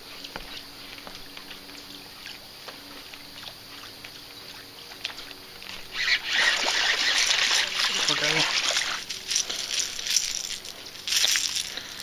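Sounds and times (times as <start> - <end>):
lure ticking and splashing on water: 0.2 - 12.0.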